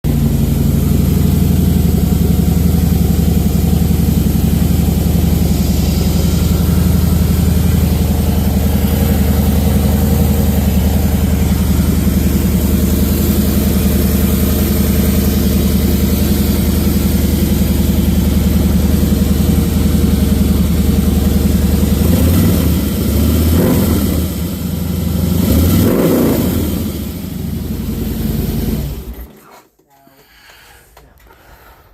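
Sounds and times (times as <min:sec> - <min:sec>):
engine whine: 0:00.1 - 0:29.3
motorcycle engine idling and revving: 0:00.1 - 0:29.3.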